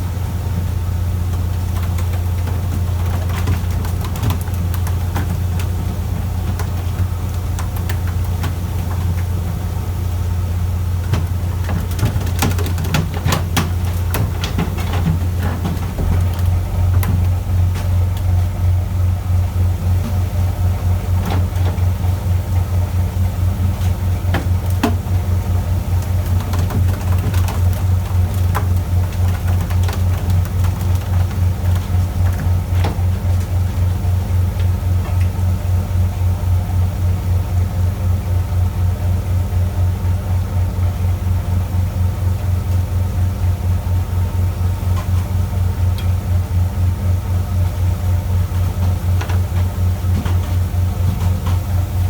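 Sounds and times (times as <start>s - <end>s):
boat engine humming: 0.0s - 52.0s.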